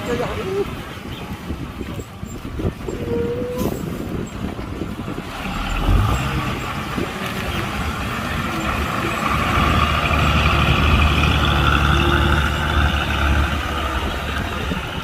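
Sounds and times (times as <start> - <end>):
heavy diesel engine under load: 2.8 - 15.0.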